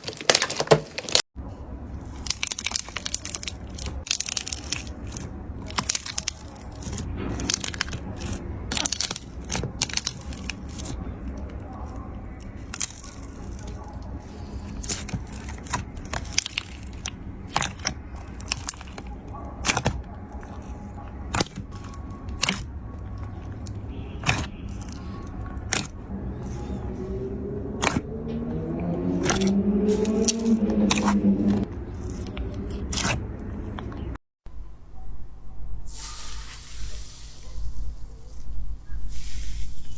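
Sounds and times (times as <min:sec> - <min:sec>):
slime squished by hand: 0:02.0 - 0:34.1.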